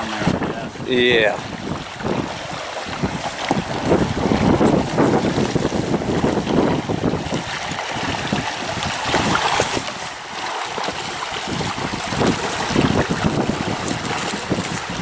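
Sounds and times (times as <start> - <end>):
small waves washing against rocks: 0.0 - 15.0
wind buffeting microphone: 0.0 - 15.0.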